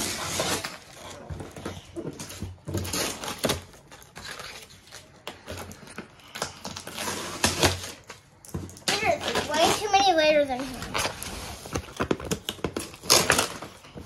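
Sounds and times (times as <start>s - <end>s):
plastic packaging rustling and crinkling: 0.0s - 14.0s.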